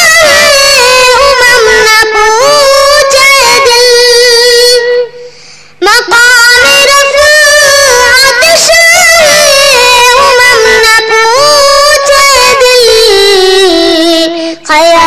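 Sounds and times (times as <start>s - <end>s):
high voice singing devotional song: 0.0s - 15.0s.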